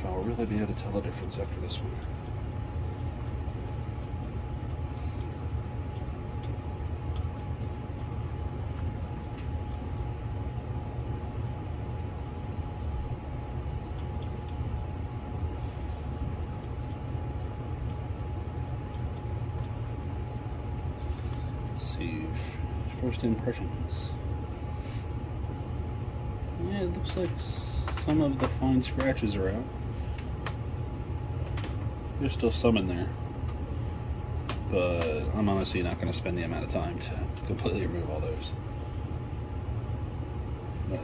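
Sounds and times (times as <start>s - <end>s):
faint constant whine: 0.0s - 41.0s
small fan motor humming: 0.0s - 41.0s.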